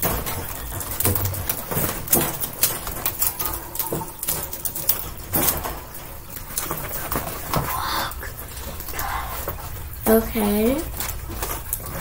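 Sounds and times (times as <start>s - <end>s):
wire cage panels clinking: 0.0s - 10.0s.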